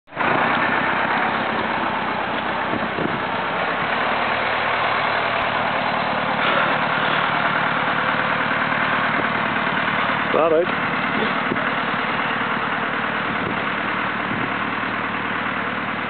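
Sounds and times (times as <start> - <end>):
tractor engine running hard: 0.0 - 16.0.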